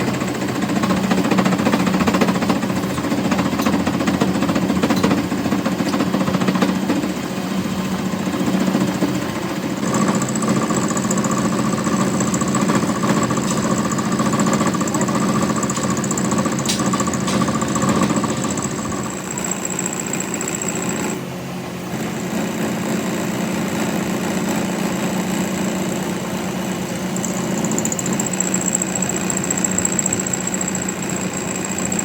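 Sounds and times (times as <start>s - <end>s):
machine whining and humming: 0.0s - 32.0s.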